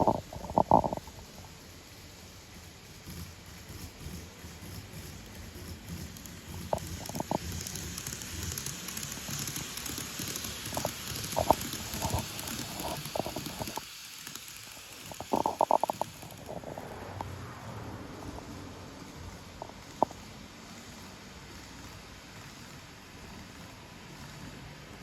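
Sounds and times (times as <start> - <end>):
model train motor hissing: 0.0 - 25.0.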